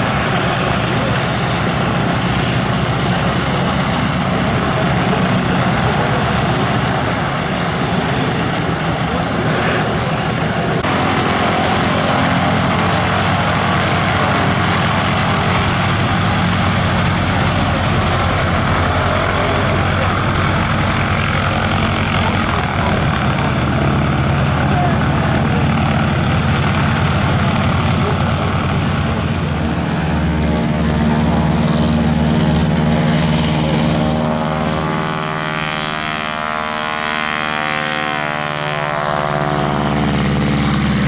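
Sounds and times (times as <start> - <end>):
radial aircraft engine running: 0.0 - 41.0.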